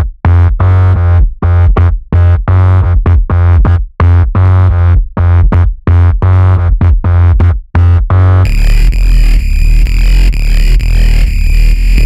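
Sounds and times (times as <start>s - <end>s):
pulsing synthesizer bass: 0.0s - 12.0s.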